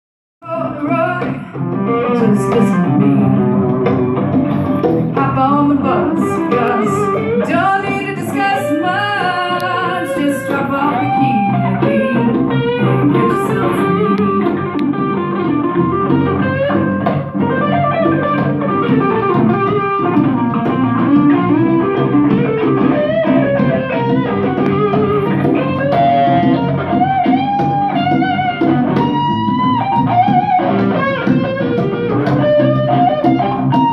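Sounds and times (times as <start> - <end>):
electric guitar solo: 0.4 - 33.9
conga drums: 0.6 - 33.9.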